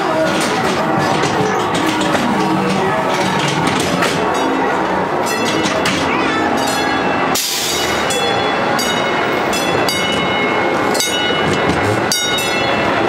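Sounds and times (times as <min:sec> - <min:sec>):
loud steady background noise: 0:00.0 - 0:13.0
train wheels clacking on track: 0:00.0 - 0:13.0.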